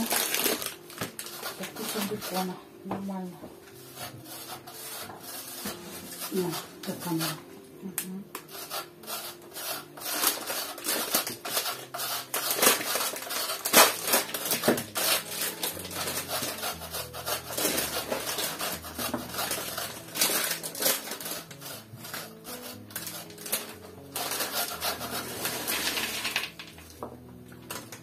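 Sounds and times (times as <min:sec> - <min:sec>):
cheese grating rasps: 0:00.0 - 0:02.6, 0:03.7 - 0:07.5, 0:08.4 - 0:26.9.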